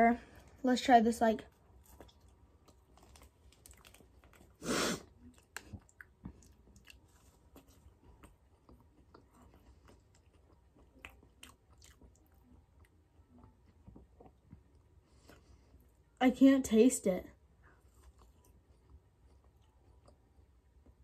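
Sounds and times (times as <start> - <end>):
chewing gummy candy: 1.4 - 16.2, 17.6 - 21.0.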